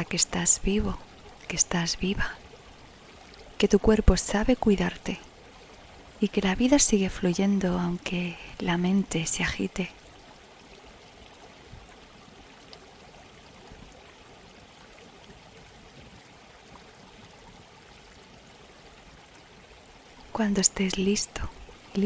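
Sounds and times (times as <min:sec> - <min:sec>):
running water trickling: 0:00.0 - 0:22.0.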